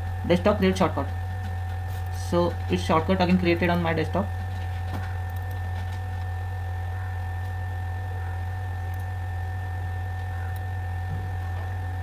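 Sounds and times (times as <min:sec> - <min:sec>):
faint whining tones: 0:00.0 - 0:12.0
low electrical hum: 0:00.0 - 0:12.0.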